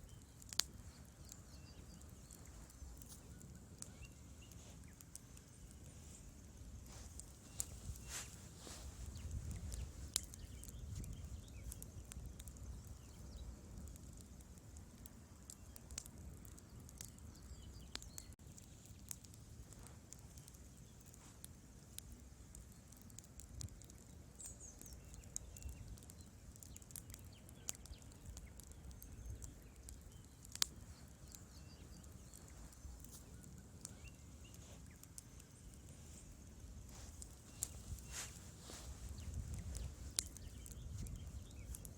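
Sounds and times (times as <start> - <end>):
low rumble of flames: 0.0 - 41.9
wood fire crackling and popping: 0.0 - 41.9.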